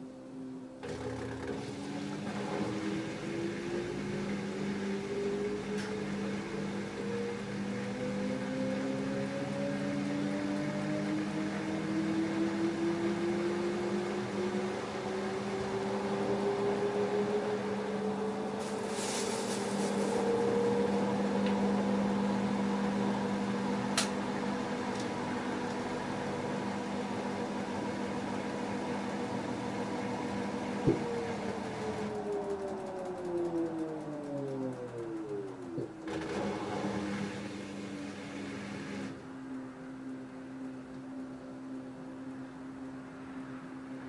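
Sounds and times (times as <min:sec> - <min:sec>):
washing machine motor whine: 0:00.0 - 0:44.0.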